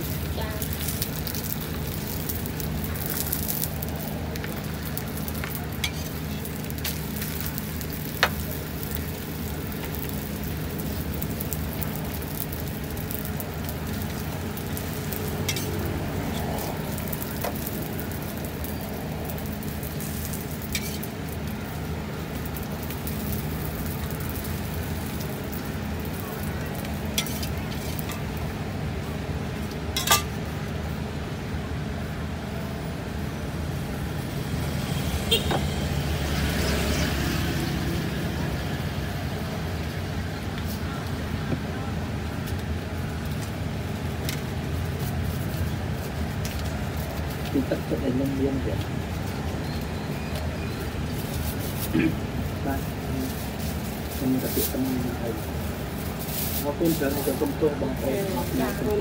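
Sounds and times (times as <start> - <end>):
roti sizzling in oil on griddle: 0.0 - 59.0.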